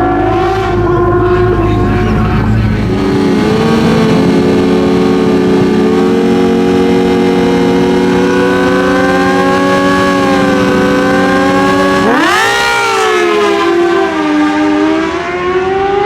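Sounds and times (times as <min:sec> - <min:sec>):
motorcycle engine high revs: 0:00.0 - 0:16.0.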